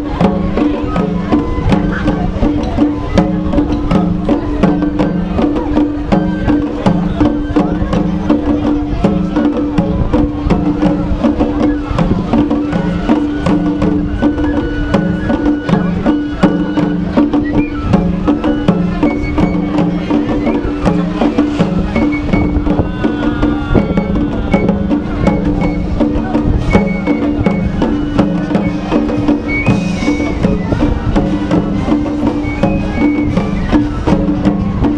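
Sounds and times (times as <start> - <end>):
drums struck with sticks: 0.0 - 34.9
traditional melody with high notes: 0.0 - 34.9.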